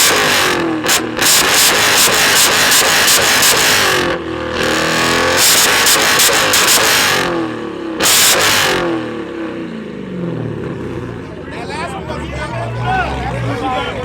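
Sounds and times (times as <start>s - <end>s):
car engine revving: 0.0s - 14.0s
exhaust crackling: 0.0s - 14.0s.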